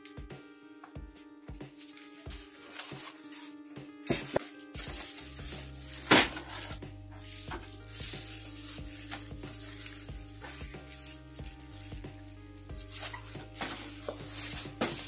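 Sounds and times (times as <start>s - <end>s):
background music: 0.0s - 15.0s
plastic wrapping crinkling: 1.8s - 15.0s.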